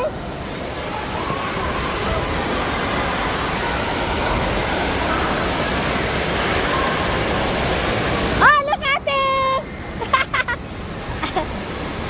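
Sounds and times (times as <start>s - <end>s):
water falling and splashing: 0.0s - 12.0s.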